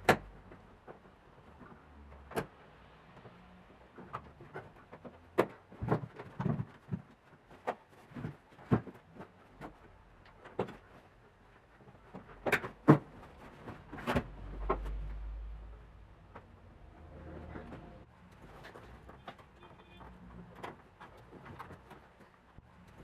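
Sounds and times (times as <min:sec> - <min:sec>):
clicks and knocks of handling: 0:00.0 - 0:15.2, 0:17.4 - 0:23.0.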